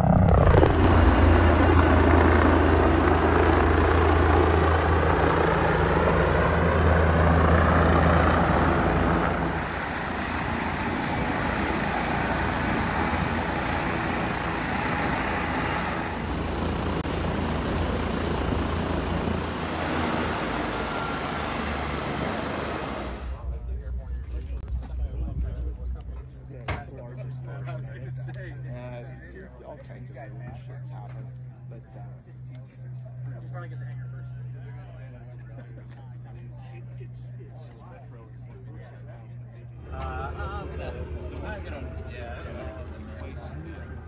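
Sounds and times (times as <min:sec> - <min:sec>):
helicopter rotor and turbine drone: 0:00.0 - 0:44.0.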